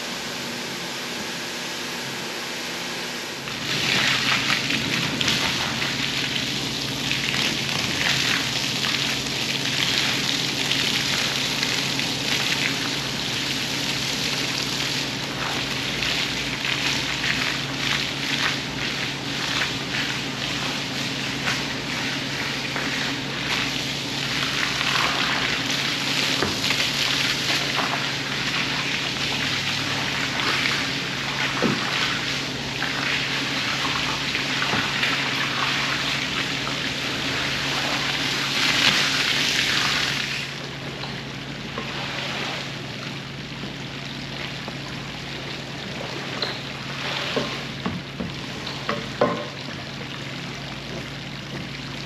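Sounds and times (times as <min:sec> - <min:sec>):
steady low hum: 0:00.0 - 0:52.0
water splashing over a rug: 0:03.2 - 0:52.0.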